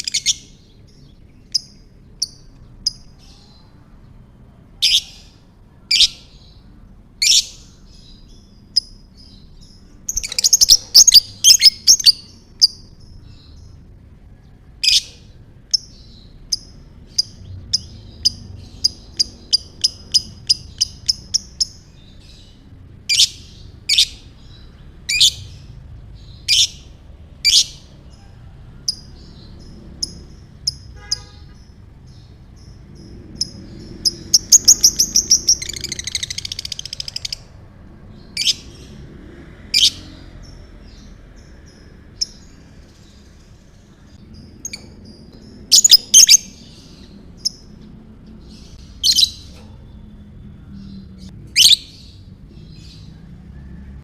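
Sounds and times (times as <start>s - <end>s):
lovebird chirping: 0.0s - 3.8s, 4.7s - 37.6s, 39.8s - 53.1s.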